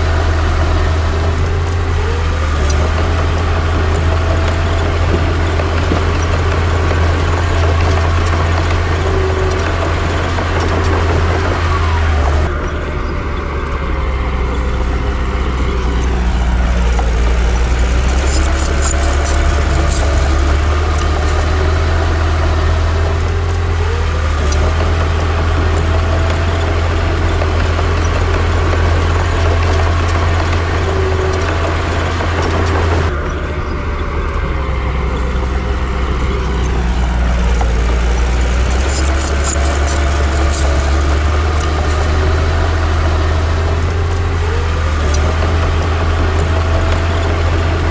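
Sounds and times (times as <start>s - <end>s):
bulldozer diesel engine: 0.0s - 47.9s
scattered clicks: 1.0s - 47.9s.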